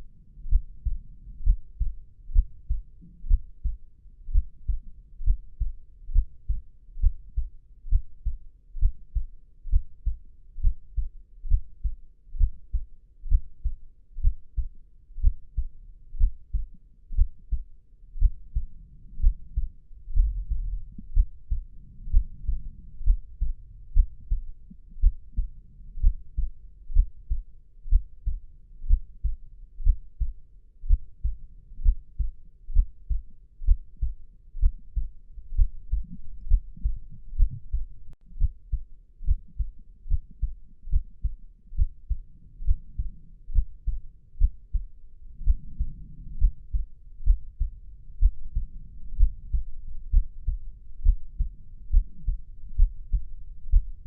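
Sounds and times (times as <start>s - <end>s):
muffled heartbeat: 0.0s - 54.0s.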